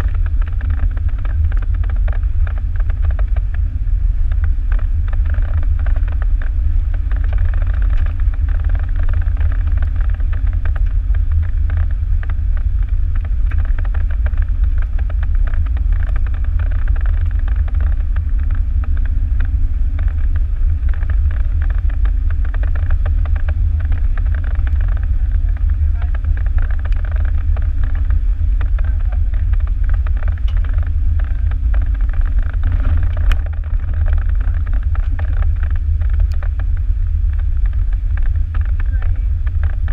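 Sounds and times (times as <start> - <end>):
vehicle driving on gravel: 0.0 - 39.9.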